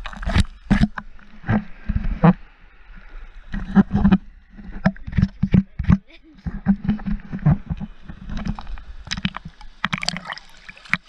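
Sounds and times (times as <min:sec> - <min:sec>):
sea water splashing: 0:00.0 - 0:11.0.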